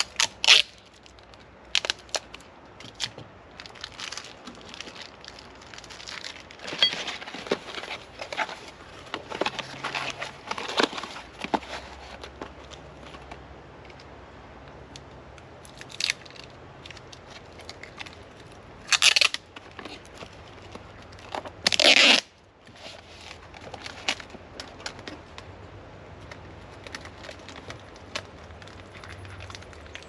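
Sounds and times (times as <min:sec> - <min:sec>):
packaging tearing and crinkling: 0:00.0 - 0:12.8, 0:15.7 - 0:25.3, 0:26.3 - 0:30.0.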